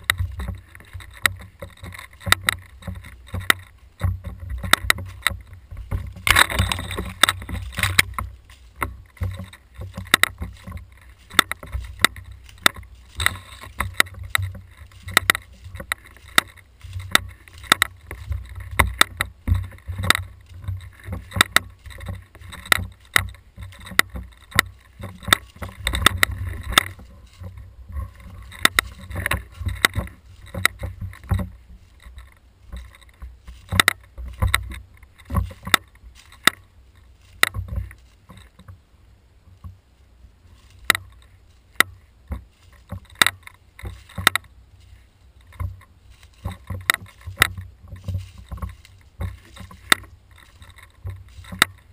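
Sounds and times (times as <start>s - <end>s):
footsteps in leaf litter: 0.0s - 38.6s, 39.9s - 51.9s
camera rattling on rifle: 0.0s - 38.8s, 40.6s - 51.9s
constant low rumble: 0.0s - 51.9s.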